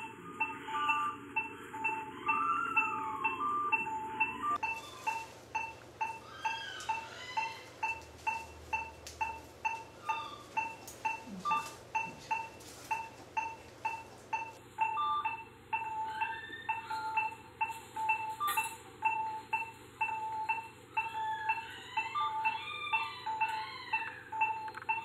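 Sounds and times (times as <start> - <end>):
patient monitor beeping: 0.0 - 25.0.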